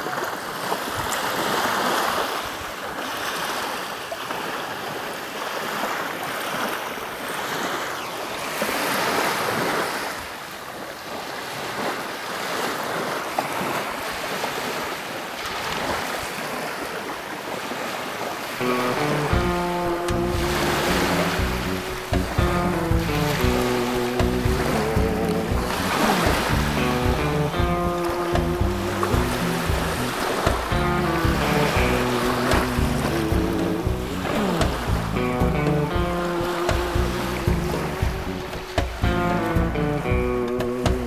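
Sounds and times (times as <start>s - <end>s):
small surf washing on sand: 0.0s - 41.0s.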